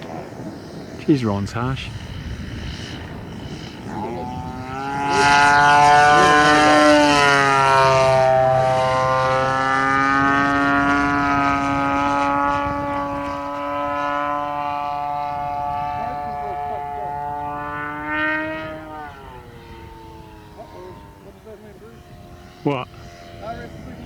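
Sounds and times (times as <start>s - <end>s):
model airplane engine and propeller: 0.0s - 24.0s.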